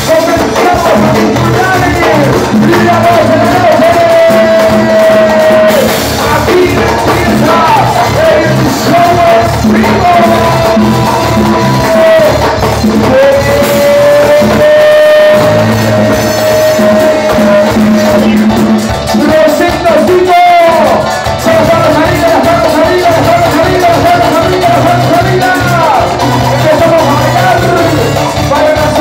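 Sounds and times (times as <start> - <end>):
congas: 0.0 - 29.0
drum kit: 0.0 - 29.0
latin band playing: 0.0 - 29.0.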